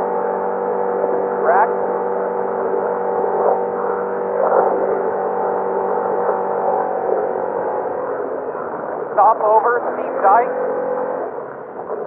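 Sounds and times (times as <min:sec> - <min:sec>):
rough road noise: 0:00.0 - 0:12.0
truck engine droning: 0:00.0 - 0:12.0.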